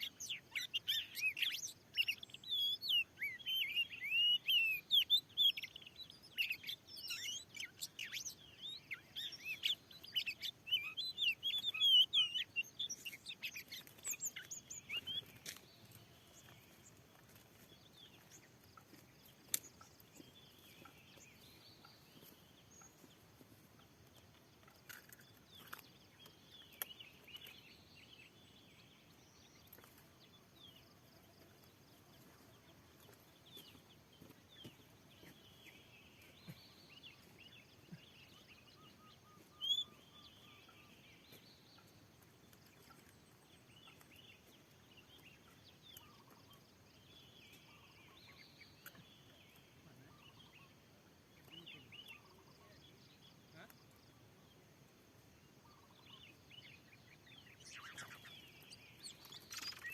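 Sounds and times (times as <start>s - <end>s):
songbird whistles and chirps: 0.0s - 23.4s, 24.1s - 31.5s, 32.1s - 50.8s, 55.6s - 59.9s.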